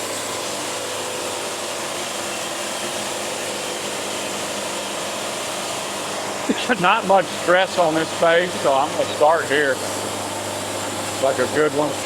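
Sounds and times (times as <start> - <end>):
band sawmill running: 0.0 - 12.0
dust collector blower hum: 0.0 - 12.0.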